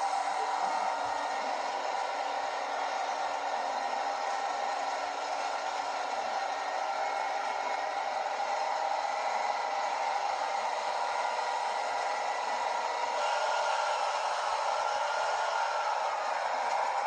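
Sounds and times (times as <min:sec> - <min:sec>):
tracked vehicle engine and tracks: 0:00.0 - 0:17.0.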